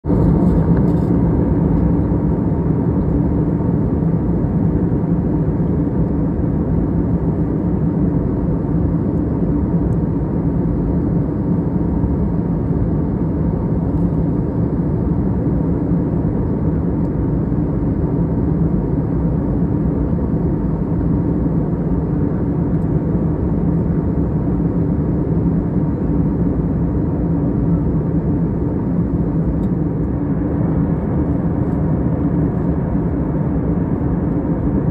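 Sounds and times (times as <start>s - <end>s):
jet cabin engine drone: 0.0s - 34.9s.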